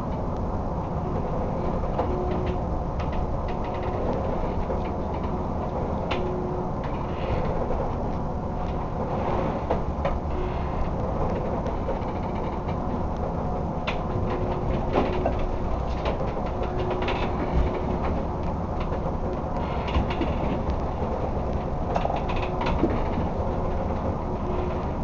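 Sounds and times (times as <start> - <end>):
low boat rumble: 0.0 - 25.0.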